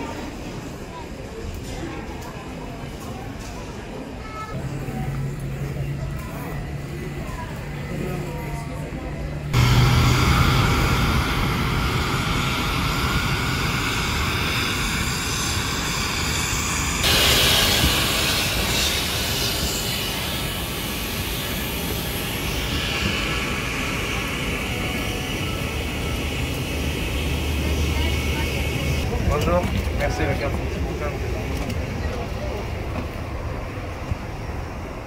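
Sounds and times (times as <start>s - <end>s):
jet aircraft whine and rush: 4.6s - 35.0s.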